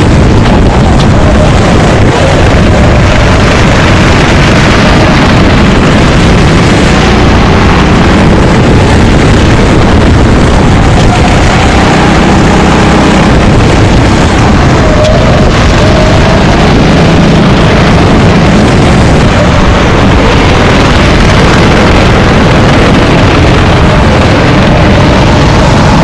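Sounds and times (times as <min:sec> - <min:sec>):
racing kart engine: 0:00.0 - 0:26.0.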